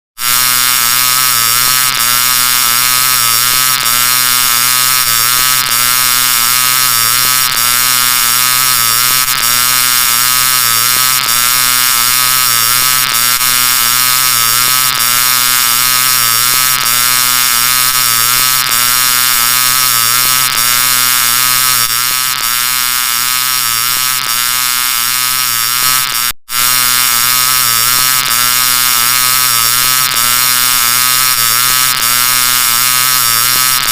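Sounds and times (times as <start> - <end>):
harsh electronic buzz: 0.2 - 33.9.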